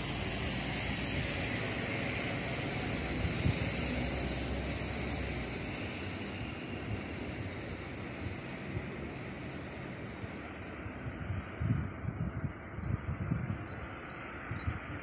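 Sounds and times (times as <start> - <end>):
tram rolling on rails: 0.0 - 15.0.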